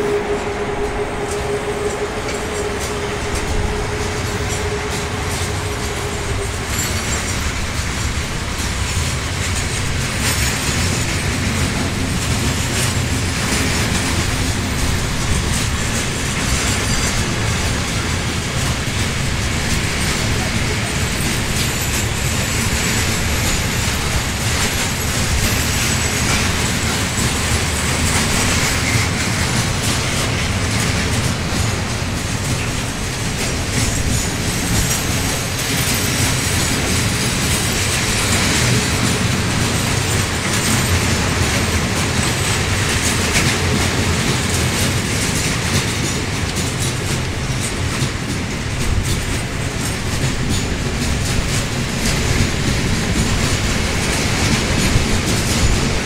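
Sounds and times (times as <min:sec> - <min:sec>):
freight train wheels rumbling: 0:00.0 - 0:56.0
wheels clattering over rail joints: 0:00.6 - 0:56.0.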